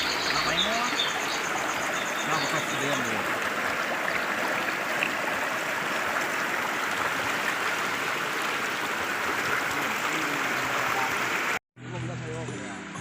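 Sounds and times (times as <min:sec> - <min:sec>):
flowing water rushing: 0:00.0 - 0:11.6.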